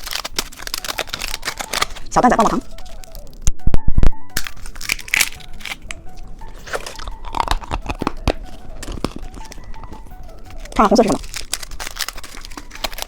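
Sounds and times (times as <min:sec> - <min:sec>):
candy crunching and crackling: 0:00.0 - 0:03.4, 0:04.4 - 0:13.0.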